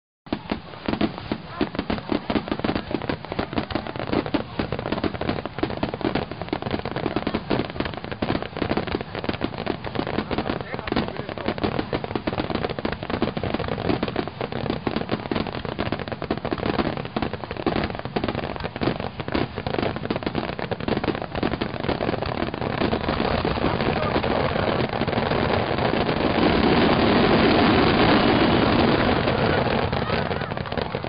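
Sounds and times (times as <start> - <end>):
crackling fireworks: 0.3 - 31.0.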